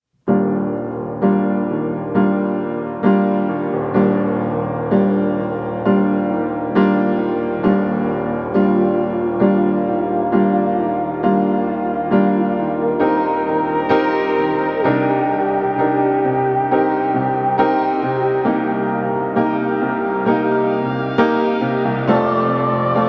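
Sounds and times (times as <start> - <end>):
piano playing sustained chords: 0.3 - 23.0.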